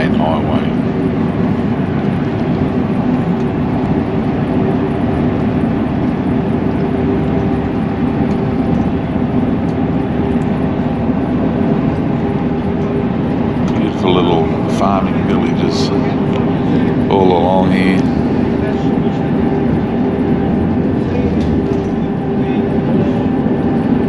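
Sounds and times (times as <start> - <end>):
constant hum: 0.0 - 24.0
vehicle interior rumble: 0.0 - 24.0.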